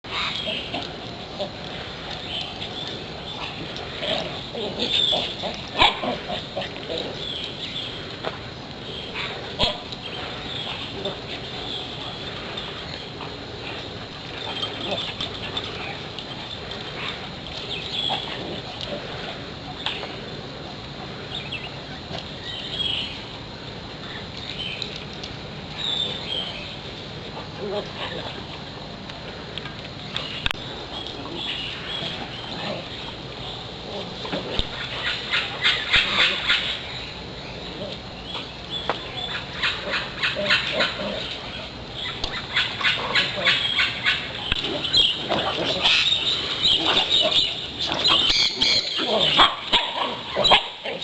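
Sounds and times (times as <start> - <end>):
outdoor background hiss: 0.0 - 51.0
dogs making low vocal sounds: 0.1 - 8.2, 9.1 - 22.8, 23.8 - 51.0.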